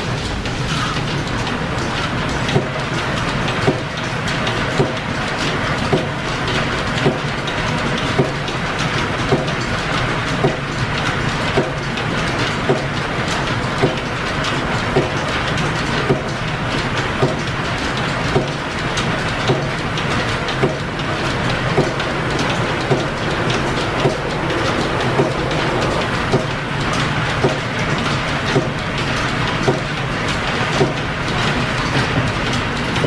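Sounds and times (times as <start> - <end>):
belt-driven machinery running: 0.0 - 33.0.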